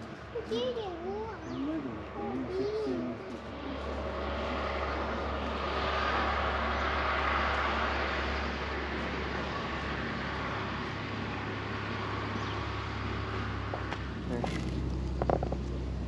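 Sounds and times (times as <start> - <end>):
road noise: 0.0 - 16.0
vehicle engine: 0.0 - 16.0.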